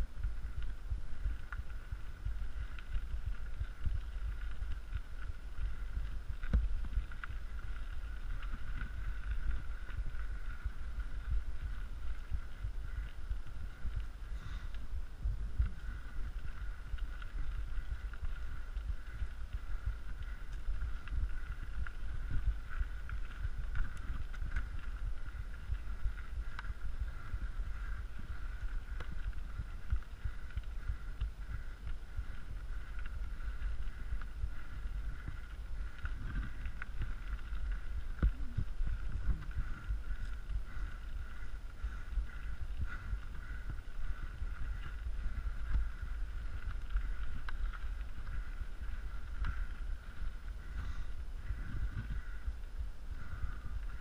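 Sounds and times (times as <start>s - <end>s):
wind and trail rumble: 0.0s - 54.0s.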